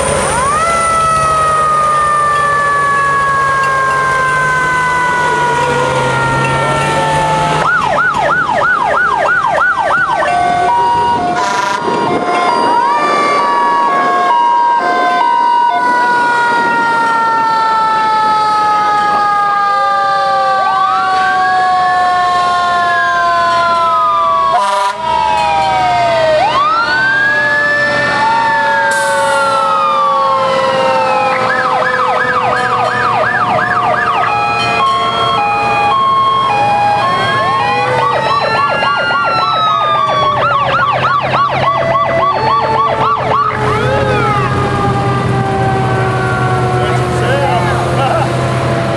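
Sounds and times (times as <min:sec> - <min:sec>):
fire truck sirens wailing: 0:00.0 - 0:48.9
two-tone hi-lo siren: 0:00.0 - 0:48.9
siren fast yelp: 0:00.4 - 0:48.2.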